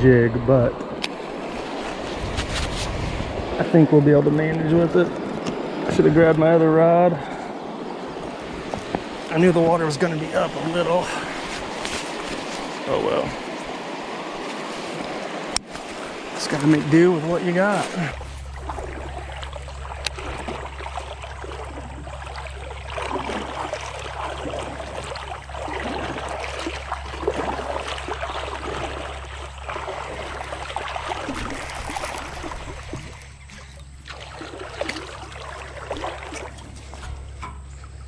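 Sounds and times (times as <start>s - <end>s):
creek water rushing and gurgling: 0.0s - 38.0s.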